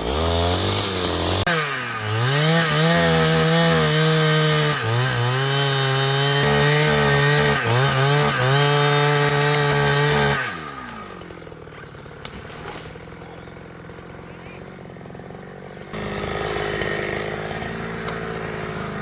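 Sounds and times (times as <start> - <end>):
chainsaw running: 0.0 - 19.0.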